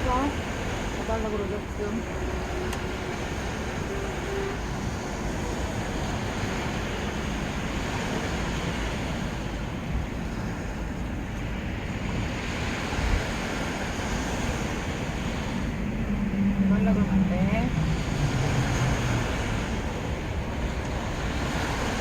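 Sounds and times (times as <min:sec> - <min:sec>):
waves breaking on beach: 0:00.0 - 0:22.0
wind on microphone: 0:00.0 - 0:22.0.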